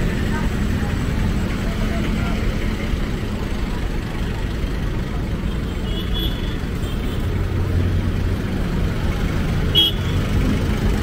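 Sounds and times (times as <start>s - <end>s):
highway traffic rumble: 0.0s - 11.0s.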